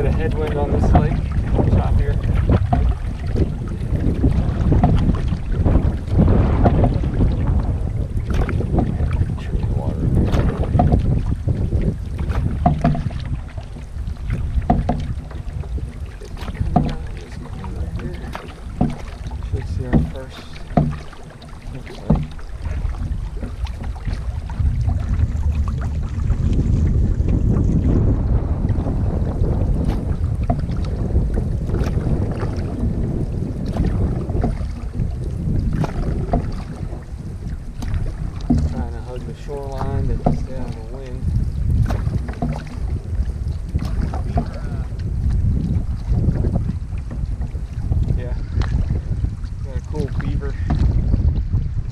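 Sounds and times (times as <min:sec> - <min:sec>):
canoe paddle strokes in water: 0:00.0 - 0:51.9
wind rumbling on microphone: 0:00.0 - 0:51.9.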